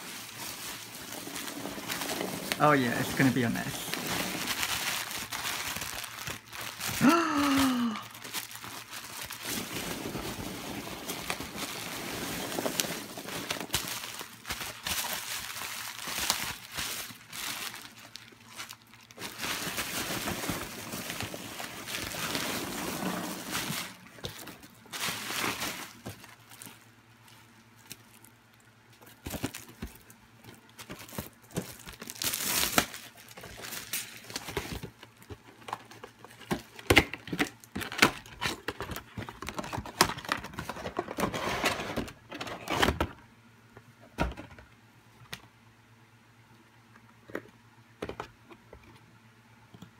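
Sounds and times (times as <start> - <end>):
bubble wrap crinkling: 0.0 - 41.3.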